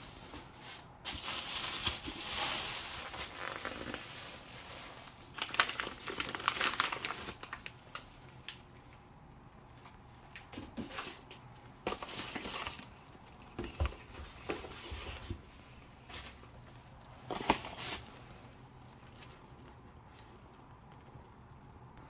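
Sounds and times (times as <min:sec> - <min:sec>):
rustling of plastic and cardboard: 0:00.0 - 0:21.1.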